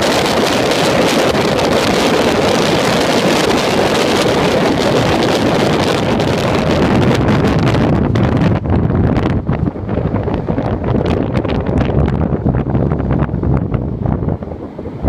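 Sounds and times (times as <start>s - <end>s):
car running and road noise: 0.0s - 15.0s
wind rushing over microphone: 0.0s - 15.0s.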